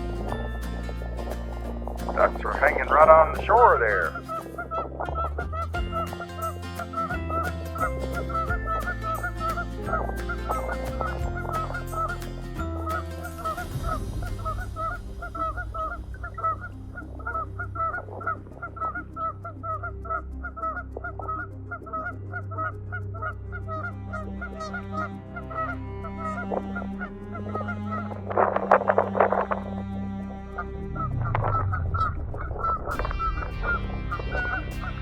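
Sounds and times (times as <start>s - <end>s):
flock of geese honking: 2.1s - 35.0s.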